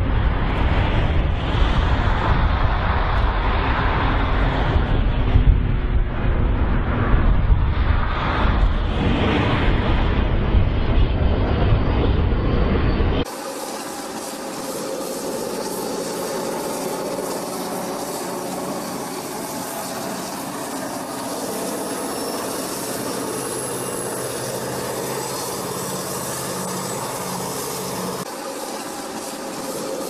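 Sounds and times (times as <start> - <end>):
passenger train rumbling on track: 0.0 - 30.0.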